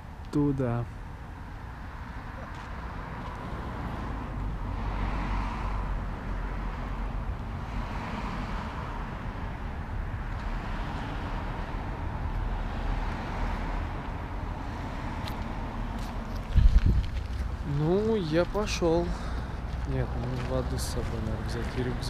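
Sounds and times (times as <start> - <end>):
cars passing by: 0.0 - 22.0
low traffic rumble: 0.0 - 22.0.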